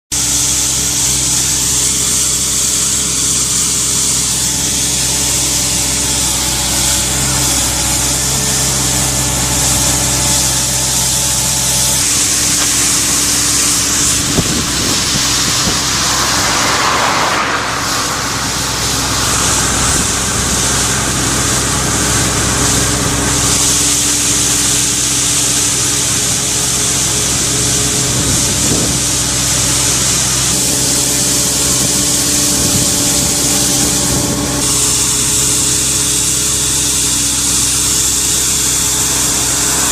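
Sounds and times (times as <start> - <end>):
diesel engine running: 0.1 - 39.9
sweeper brush hissing on asphalt: 0.1 - 39.9.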